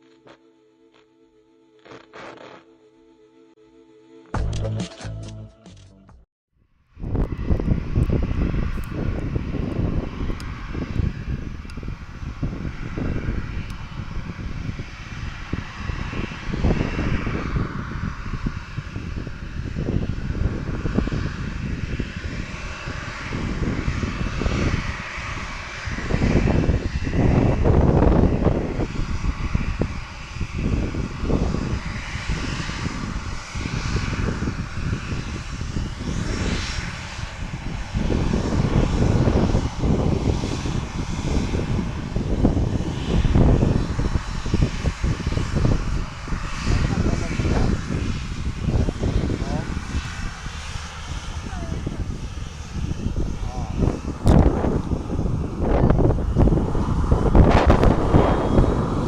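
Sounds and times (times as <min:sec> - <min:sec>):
jet engines whining and rumbling: 0:06.8 - 0:59.0.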